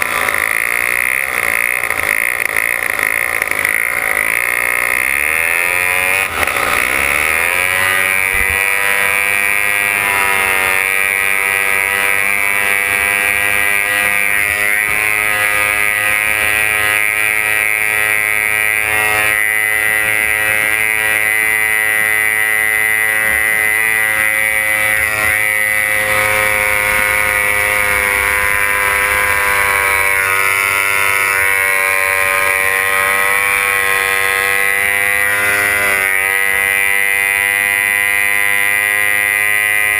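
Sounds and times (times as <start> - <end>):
racing boat engine at high revs: 0.0 - 39.9
wind: 0.0 - 39.9.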